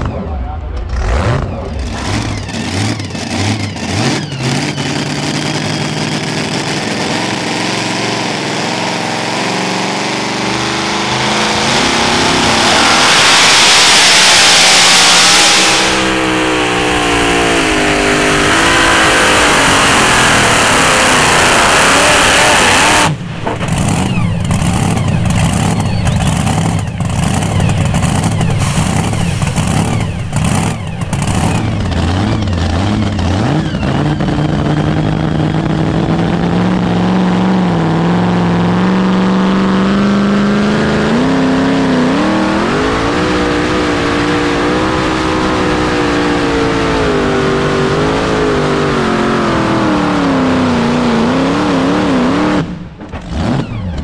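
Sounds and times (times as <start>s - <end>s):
truck engine running hard: 0.0s - 54.0s.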